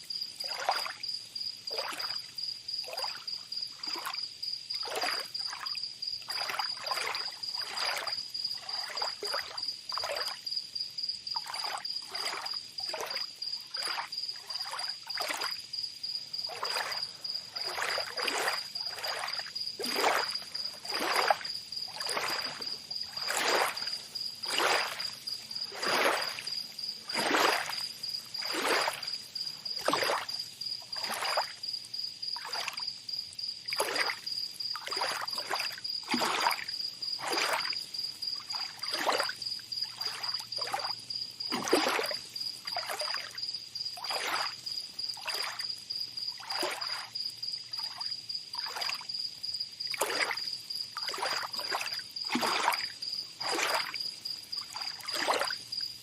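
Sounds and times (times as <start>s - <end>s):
high pulsing insect trill: 0.0s - 56.0s
small waves lapping on shore: 0.3s - 1.0s, 1.6s - 10.4s, 11.3s - 31.6s, 32.4s - 32.8s, 33.6s - 49.1s, 49.8s - 55.8s.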